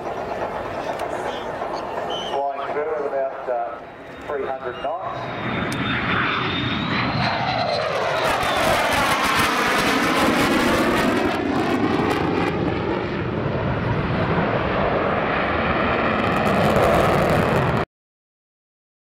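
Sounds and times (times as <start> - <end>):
jet flypast roar: 0.0 - 17.9.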